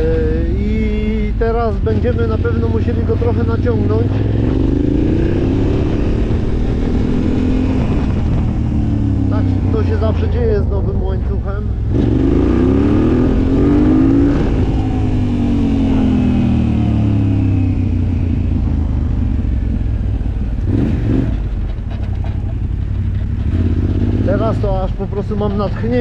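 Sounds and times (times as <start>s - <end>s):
quad bike engine revving: 0.0s - 26.0s.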